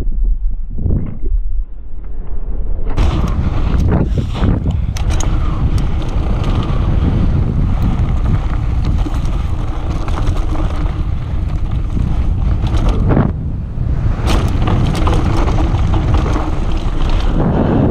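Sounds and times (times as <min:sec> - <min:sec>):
wind buffeting microphone: 0:00.0 - 0:17.9
bike tyres rumbling on dirt: 0:03.0 - 0:17.9.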